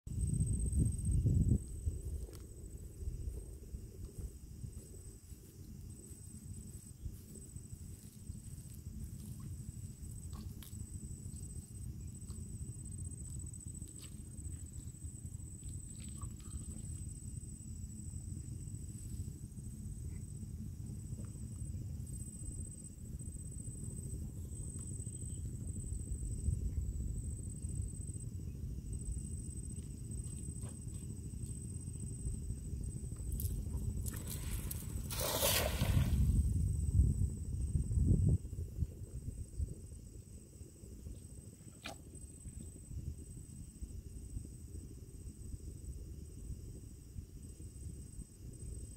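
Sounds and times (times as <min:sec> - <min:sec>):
wind rumbling on microphone: 0:00.1 - 0:48.9.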